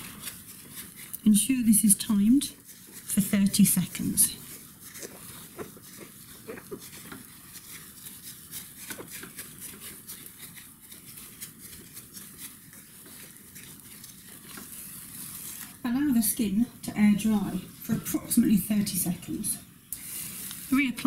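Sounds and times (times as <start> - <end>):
wipe rubbing on skin: 0.0 - 16.2, 20.0 - 21.0.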